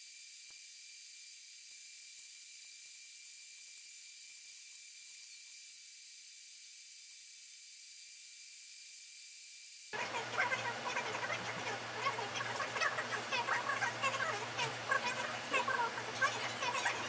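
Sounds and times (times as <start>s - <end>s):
high-pitched hiss with whine: 0.0s - 17.0s.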